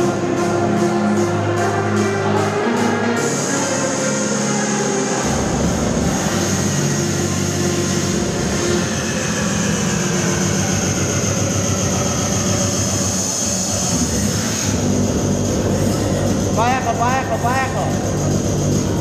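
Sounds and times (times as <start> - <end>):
electronic dance music: 0.0 - 19.0.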